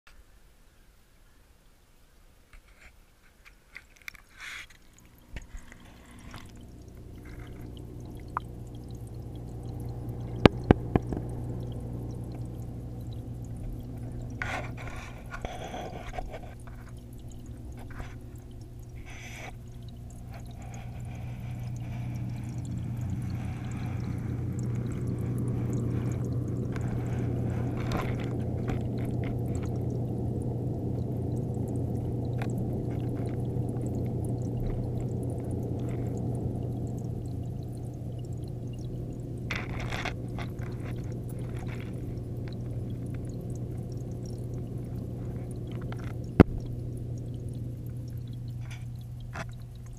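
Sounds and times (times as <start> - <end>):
underwater filter hum and water rush: 0.1 - 49.9.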